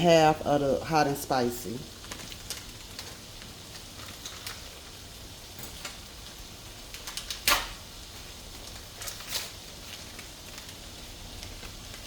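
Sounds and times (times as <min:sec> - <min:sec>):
ground beef sizzling in a skillet: 0:01.2 - 0:12.0.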